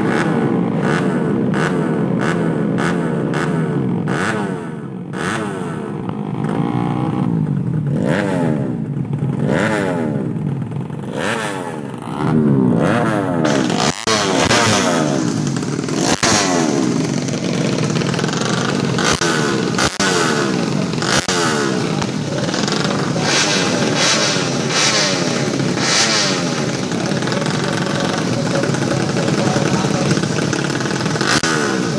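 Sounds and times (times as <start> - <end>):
motorcycle engines revving hard: 0.0 - 31.9.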